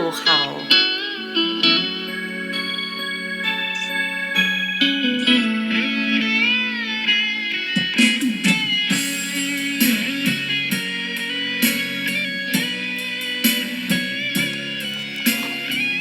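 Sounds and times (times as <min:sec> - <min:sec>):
electric plucked lute melody: 0:00.0 - 0:16.0
steady drone: 0:00.0 - 0:16.0.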